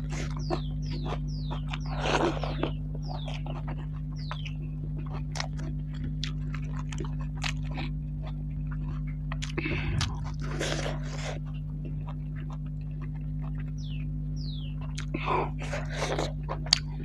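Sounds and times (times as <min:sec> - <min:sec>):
low electrical hum: 0:00.0 - 0:17.0
wet chewing and lip smacks: 0:00.0 - 0:17.0.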